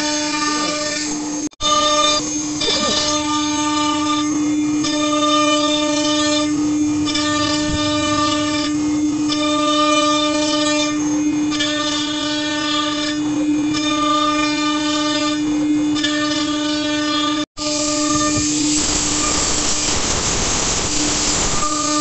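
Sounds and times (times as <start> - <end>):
router spindle whining: 0.0 - 19.8
bit cutting wood buzz: 0.0 - 22.0.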